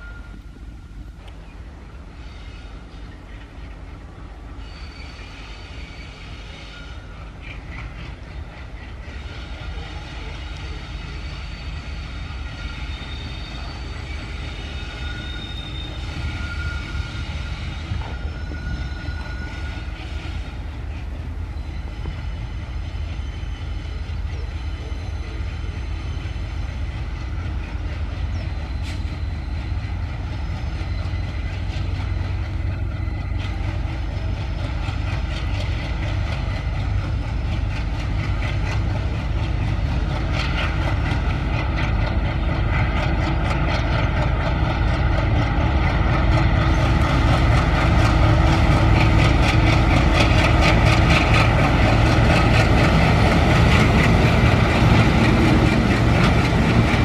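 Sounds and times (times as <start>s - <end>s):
diesel locomotive engine chugging: 0.0s - 57.0s
train wheels clattering over track: 2.2s - 57.0s.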